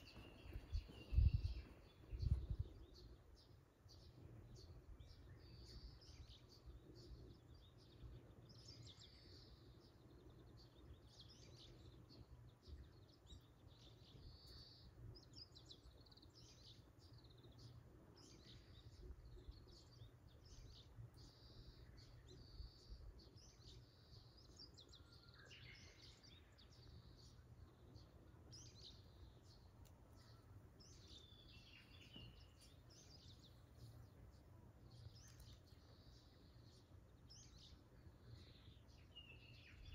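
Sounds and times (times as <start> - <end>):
bird chirps: 0.0 - 39.9.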